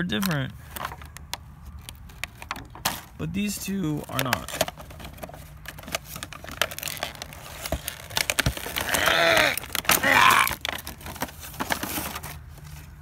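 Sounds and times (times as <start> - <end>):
packaging crinkling and clicking: 0.0 - 3.1, 3.9 - 12.8.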